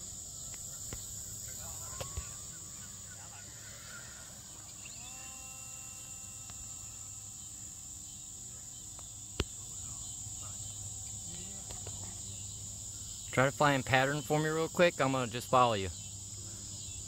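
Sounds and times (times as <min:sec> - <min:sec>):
faint steady whine: 0:00.0 - 0:17.0
insect chirring: 0:00.0 - 0:17.0.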